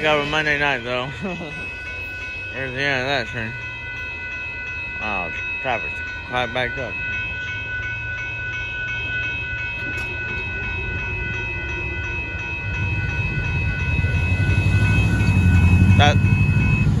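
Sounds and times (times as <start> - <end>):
crossing warning bells ringing: 0.0 - 17.0
low rumble of cars: 0.0 - 17.0.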